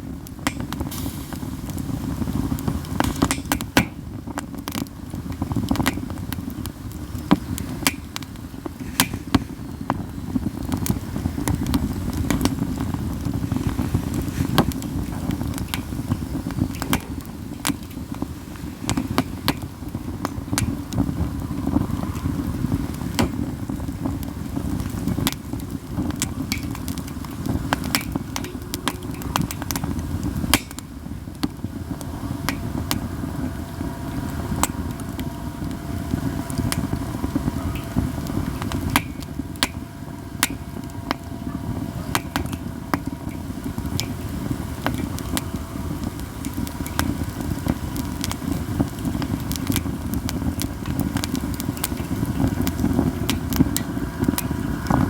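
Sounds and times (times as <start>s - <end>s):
low steady rumble: 0.0s - 55.0s
wood fire crackling and popping: 0.0s - 55.0s.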